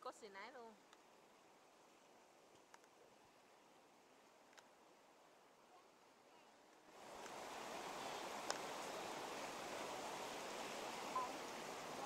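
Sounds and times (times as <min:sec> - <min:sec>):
river water rushing: 0:01.0 - 0:12.0.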